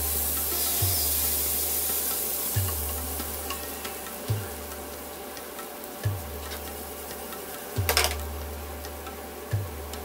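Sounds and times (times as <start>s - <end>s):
background music with bass: 0.0s - 10.0s
food sizzling in hot oil: 0.0s - 10.0s.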